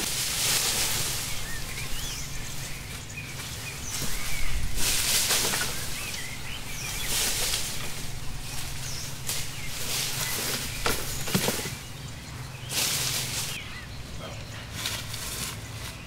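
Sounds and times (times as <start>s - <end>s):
vine dragged through leaf litter: 0.0s - 11.9s, 12.5s - 13.9s, 14.7s - 16.0s
forest background: 0.0s - 16.0s
small birds chirping: 0.0s - 16.0s.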